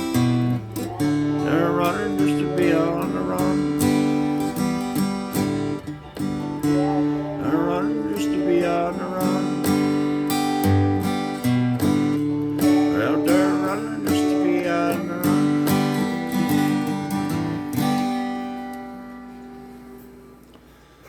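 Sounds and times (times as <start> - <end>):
acoustic guitar strummed and picked: 0.0 - 21.0.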